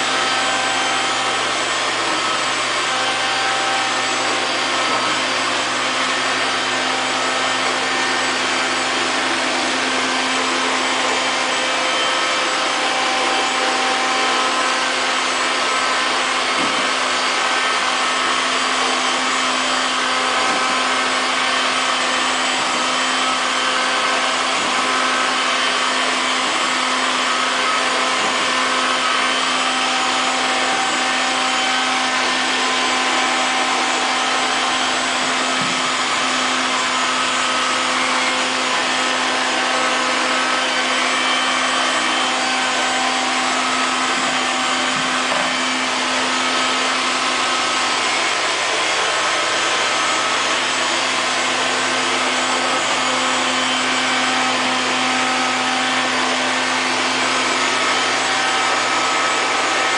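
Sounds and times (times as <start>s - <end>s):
robot vacuum cleaner whirring: 0.0s - 59.9s.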